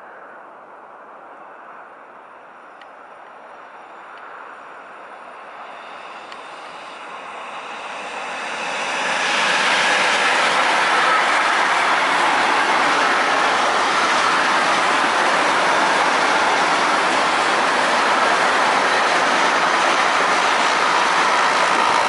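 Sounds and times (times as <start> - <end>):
freight train passing: 1.5 - 22.0.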